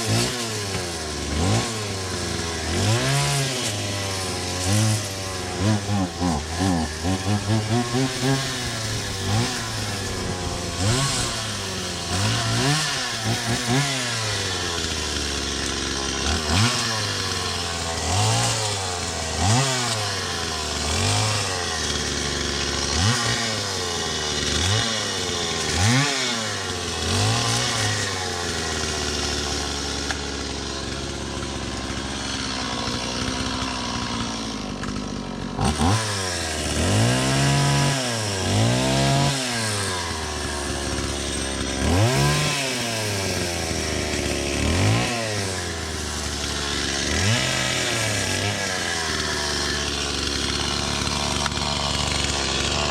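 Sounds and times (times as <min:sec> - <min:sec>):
chainsaw engine revving: 0:00.0 - 0:52.9.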